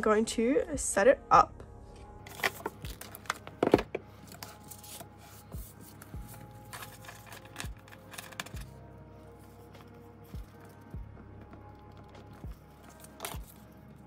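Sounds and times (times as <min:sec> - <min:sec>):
plastic sleeves rustling: 0:02.3 - 0:14.0.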